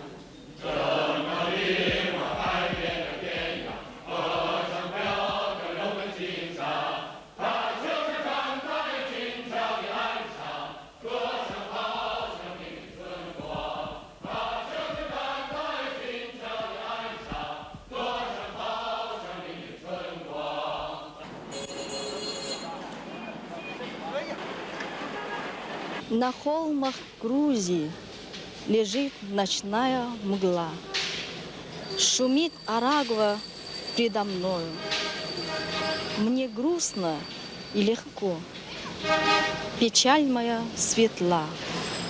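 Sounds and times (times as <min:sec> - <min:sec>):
voices chanting: 0:00.0 - 0:26.6, 0:28.7 - 0:42.0.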